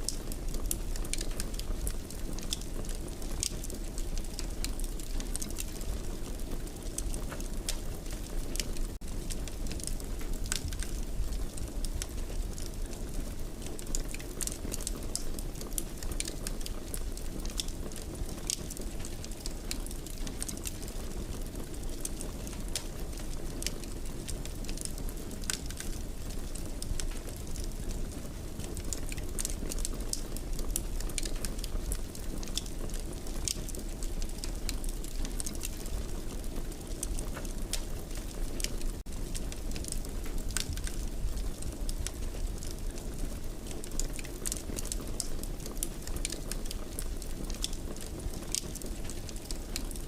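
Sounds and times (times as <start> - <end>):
low rumble of flame: 0.0 - 50.0
wood fire crackling: 0.0 - 50.0.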